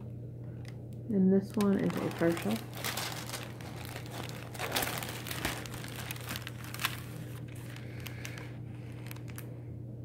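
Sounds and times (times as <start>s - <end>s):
steady low hum: 0.0s - 10.0s
plastic wrapping crinkling: 1.5s - 9.6s.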